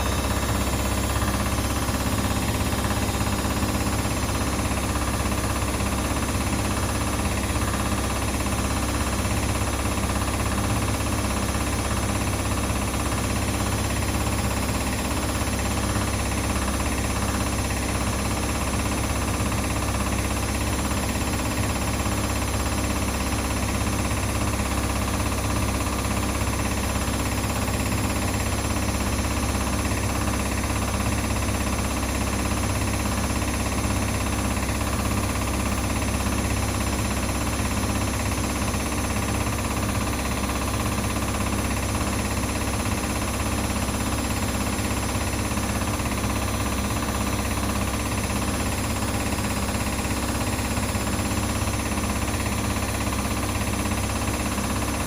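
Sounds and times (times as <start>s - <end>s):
laundry machines humming: 0.0s - 55.0s.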